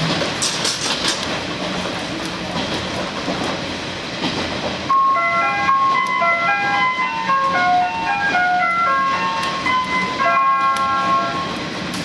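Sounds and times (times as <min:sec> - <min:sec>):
railcar running noise: 0:00.0 - 0:12.0.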